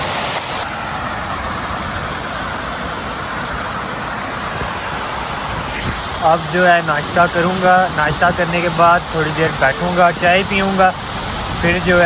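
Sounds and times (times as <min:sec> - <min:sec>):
fast water rushing: 0:00.0 - 0:12.0.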